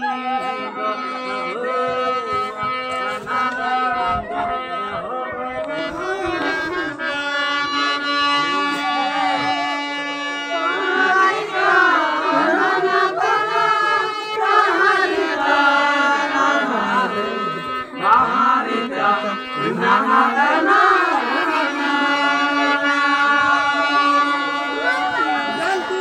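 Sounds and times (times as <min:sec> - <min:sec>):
harmonium drone: 0:00.0 - 0:26.0
people singing folk song: 0:00.0 - 0:26.0.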